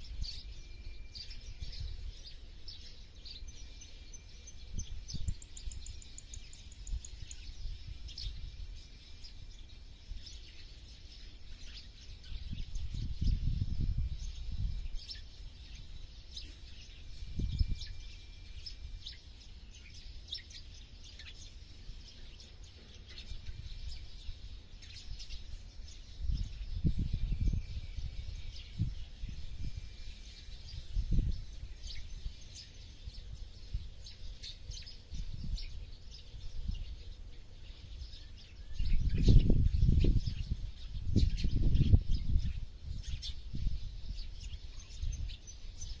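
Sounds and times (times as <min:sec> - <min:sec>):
small birds chirping and twittering: 0:00.0 - 0:46.0.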